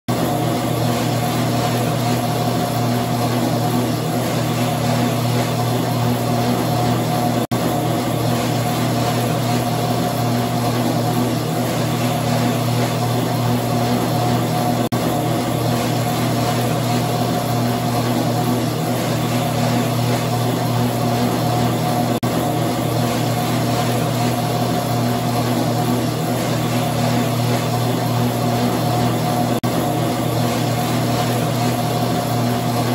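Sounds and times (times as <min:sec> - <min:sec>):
treadmill motor humming: 0:00.1 - 0:32.9.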